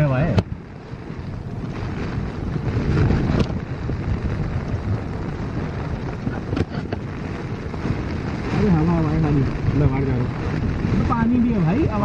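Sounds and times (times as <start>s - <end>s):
heavy rain: 0.0s - 12.0s
wind flapping tent fabric: 0.0s - 12.0s
wind rumbling on microphone: 0.0s - 12.0s.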